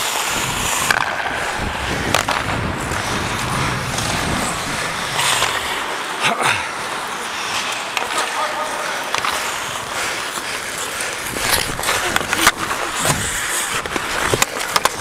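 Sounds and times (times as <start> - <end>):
skate blades scraping ice: 0.0 - 15.0.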